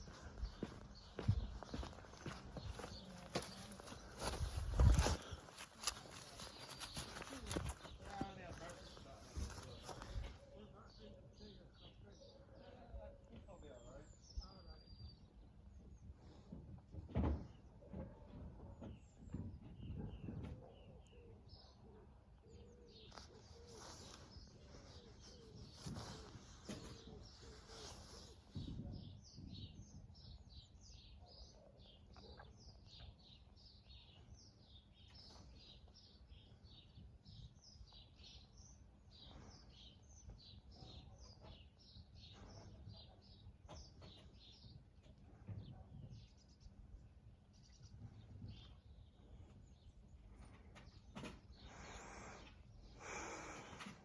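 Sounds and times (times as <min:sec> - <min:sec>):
faint songbird chirping: 0:00.0 - 0:16.8, 0:17.4 - 0:54.0.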